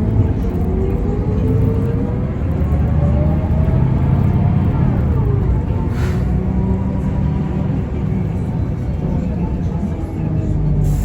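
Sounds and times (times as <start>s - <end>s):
drivetrain whine: 0.0s - 10.8s
bus engine drone: 0.0s - 11.0s.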